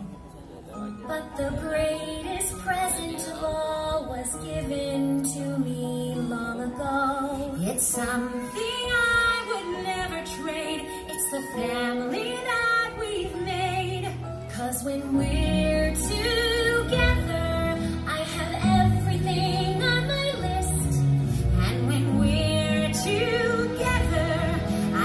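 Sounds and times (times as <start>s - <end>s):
woman singing: 0.8s - 25.0s.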